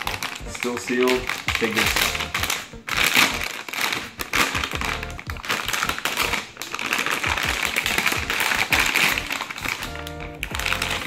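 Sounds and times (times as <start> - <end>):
background music: 0.0 - 11.0
metallic bag rustling and crackling: 0.0 - 11.0.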